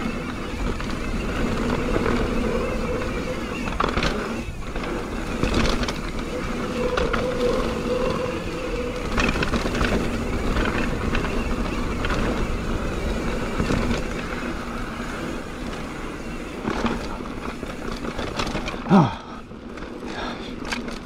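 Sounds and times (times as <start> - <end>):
bike rattling over bumps: 0.0 - 21.0
bike tyres rumbling on dirt: 0.0 - 21.0.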